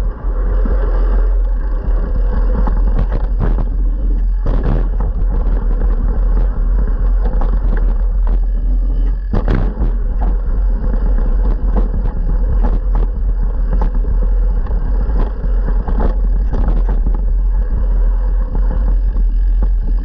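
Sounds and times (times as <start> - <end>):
bike knocks and rattles: 0.0 - 20.0
wind rumble on microphone: 0.0 - 20.0.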